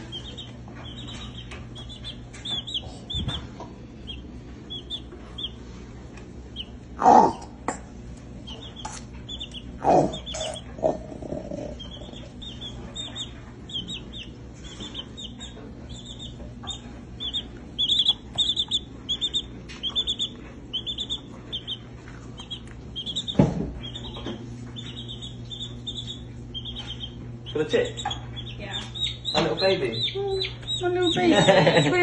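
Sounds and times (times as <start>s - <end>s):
chick peeping: 0.0s - 7.4s, 8.3s - 32.0s.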